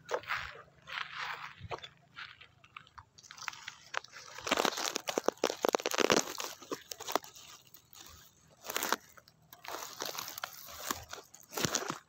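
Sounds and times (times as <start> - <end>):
crackling crunching rustle: 0.0 - 12.0.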